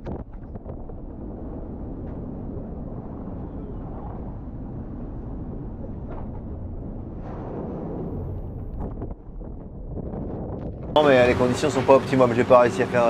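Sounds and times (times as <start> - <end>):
boat hull and water rumble: 0.0 - 13.0.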